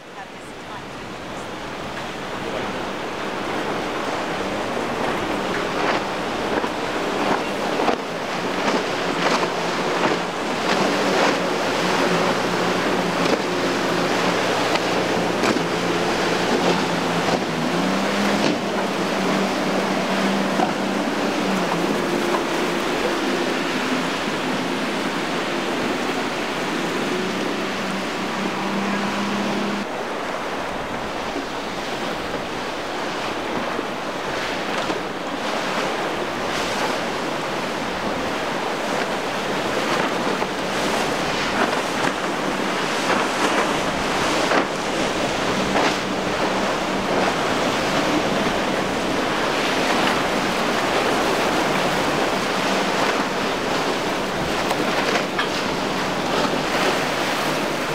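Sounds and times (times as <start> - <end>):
outboard engines running hard: 0.0 - 57.9
surf splashing: 0.0 - 57.9
wind buffeting microphone: 0.0 - 57.9.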